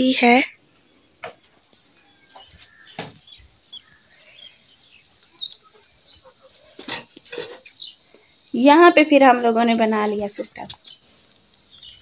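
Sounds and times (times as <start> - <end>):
bird chirp: 0.0 - 12.0
faint steady hiss: 0.0 - 12.0.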